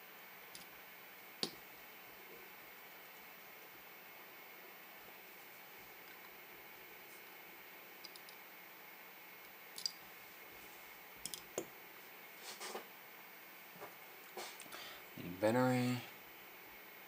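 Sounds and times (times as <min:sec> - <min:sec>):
faint steady high whine: 0:00.0 - 0:17.0.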